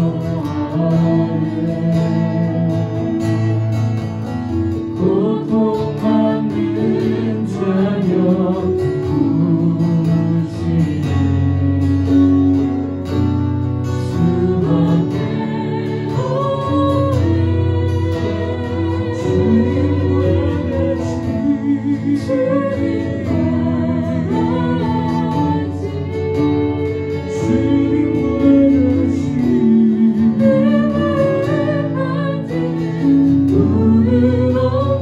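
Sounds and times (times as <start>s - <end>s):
group singing praise song: 0.0s - 3.2s, 4.9s - 11.4s, 14.0s - 35.0s
acoustic guitar: 0.0s - 35.0s.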